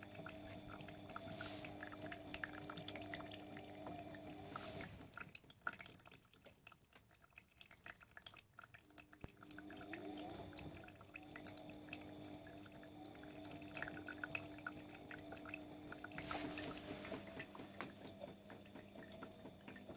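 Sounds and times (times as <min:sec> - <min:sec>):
water splashing in washing machine: 0:00.0 - 0:19.9.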